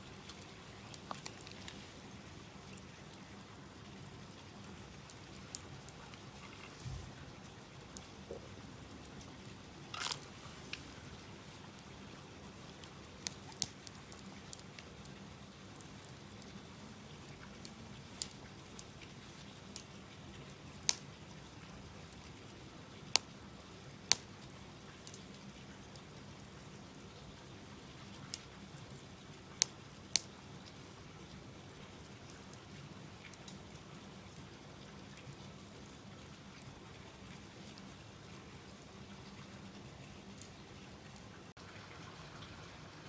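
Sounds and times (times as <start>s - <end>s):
wood fire crackling and popping: 0.0s - 41.6s
low steady fire hiss: 0.0s - 43.0s.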